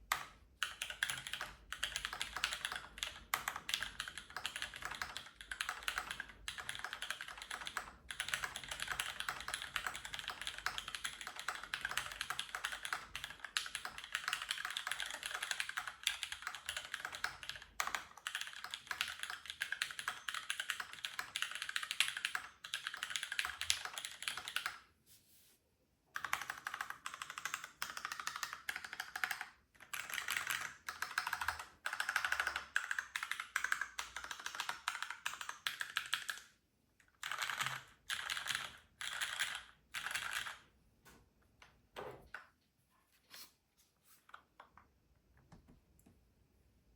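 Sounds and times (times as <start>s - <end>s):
mechanical keyboard typing: 0.1s - 24.8s, 26.2s - 36.5s, 37.2s - 40.6s.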